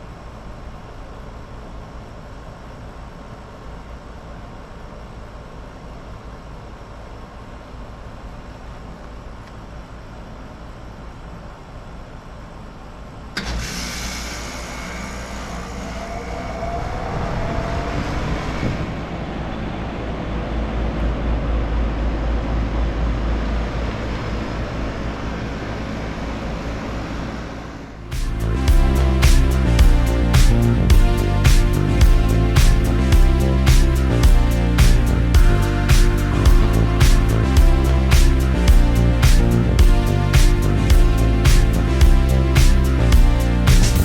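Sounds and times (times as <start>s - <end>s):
heat pump unit running: 0.0s - 16.5s, 18.6s - 44.0s.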